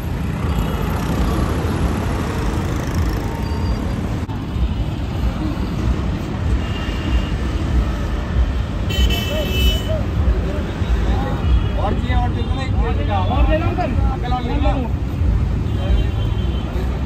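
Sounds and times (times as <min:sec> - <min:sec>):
busy road traffic rumble: 0:00.0 - 0:17.0.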